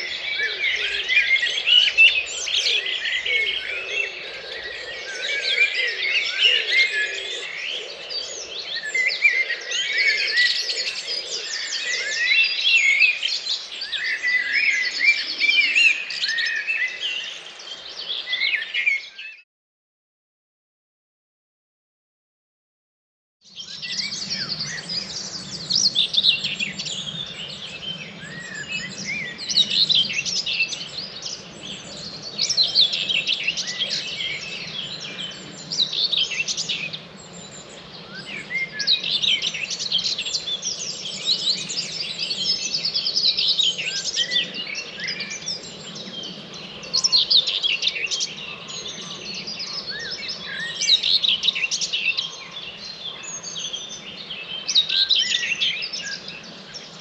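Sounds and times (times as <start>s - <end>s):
songbirds singing: 0.0s - 19.4s, 23.4s - 57.0s.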